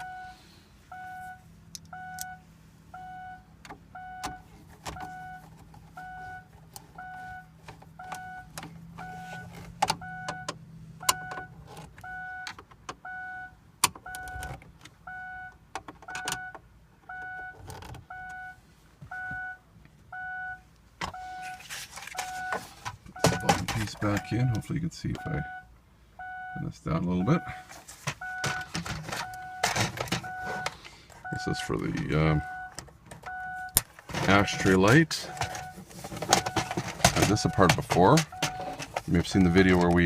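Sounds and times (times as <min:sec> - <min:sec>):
turn signal indicator beeping: 0:00.0 - 0:40.0.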